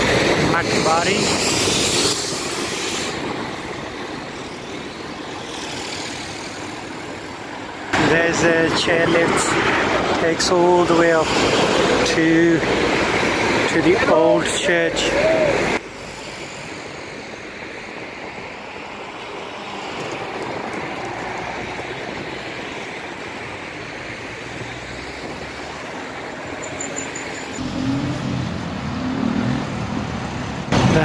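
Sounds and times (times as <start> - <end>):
cars passing: 0.0 - 31.0.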